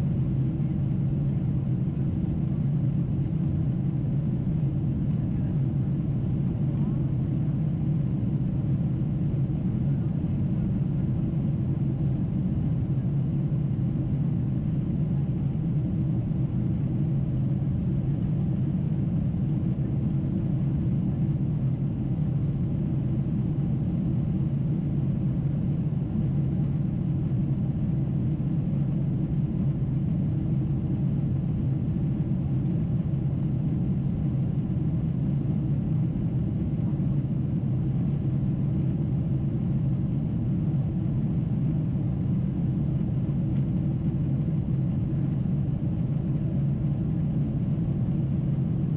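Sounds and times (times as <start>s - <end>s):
airplane cabin rumble: 0.0s - 48.9s.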